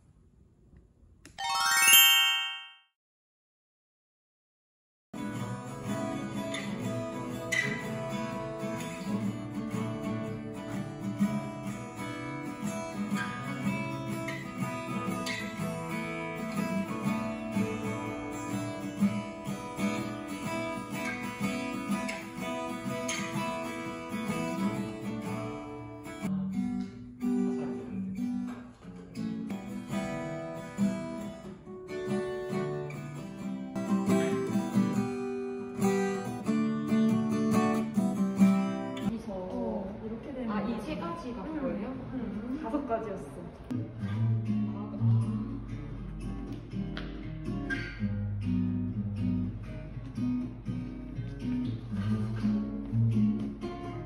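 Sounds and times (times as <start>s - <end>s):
acoustic guitar strumming: 5.2s - 39.1s, 43.8s - 54.0s.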